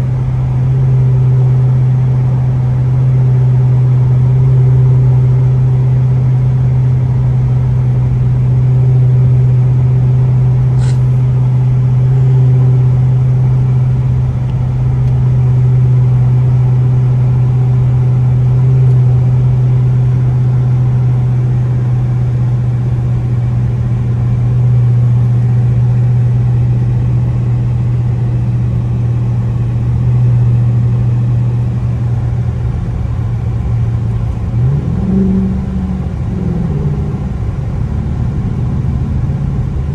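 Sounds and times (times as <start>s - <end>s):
loud car exhaust drone: 0.0s - 39.9s.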